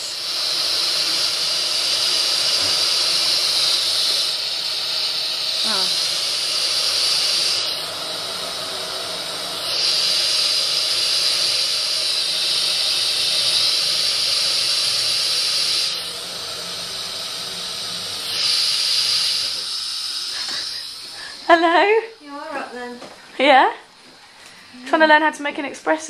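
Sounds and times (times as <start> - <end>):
espresso machine steam hiss: 0.0 - 23.4.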